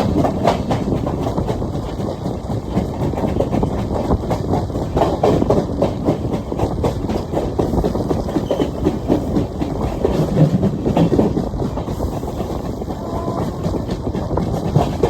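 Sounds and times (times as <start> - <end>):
train wheels clattering: 0.0 - 15.0.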